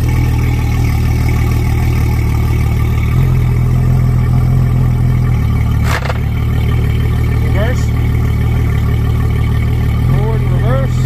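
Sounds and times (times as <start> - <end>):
outboard engine running: 0.0 - 11.0.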